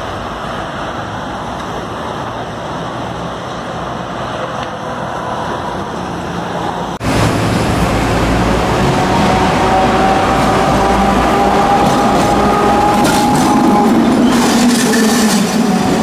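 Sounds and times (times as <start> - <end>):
street traffic noise: 0.0 - 16.0
tram rumbling on rails: 0.0 - 16.0.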